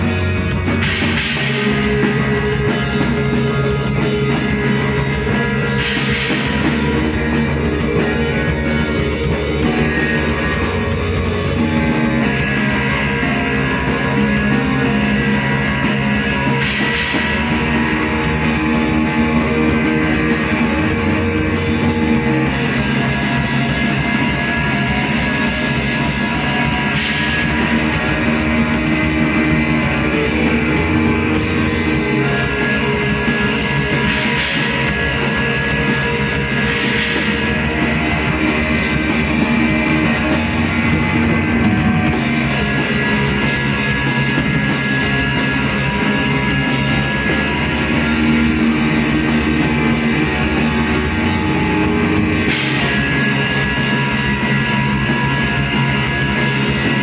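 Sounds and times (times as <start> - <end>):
rock guitar: 0.0 - 57.0
sustained drone: 0.0 - 57.0.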